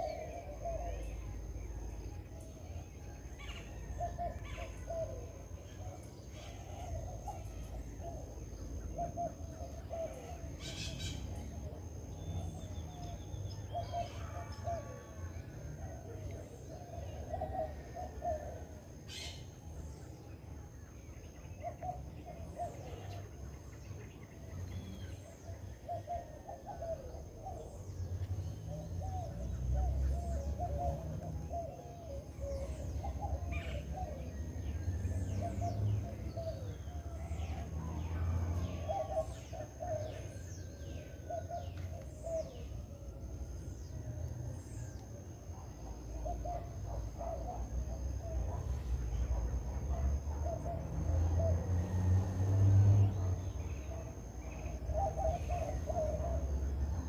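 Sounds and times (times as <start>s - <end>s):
birds chirping: 0.0s - 52.0s, 52.7s - 57.0s.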